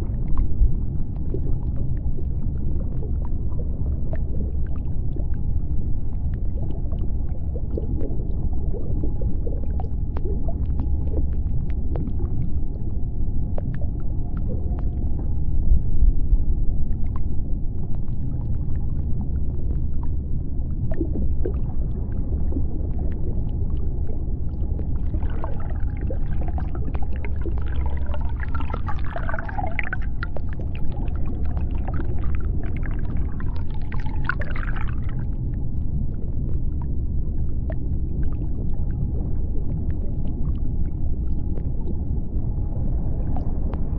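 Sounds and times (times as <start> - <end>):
deep underwater rumble: 0.0 - 43.9.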